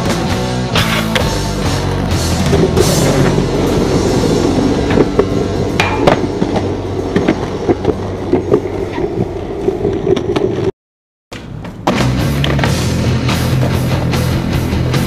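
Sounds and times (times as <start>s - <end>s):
skateboard wheels rolling on concrete: 0.0s - 10.7s, 11.4s - 15.0s.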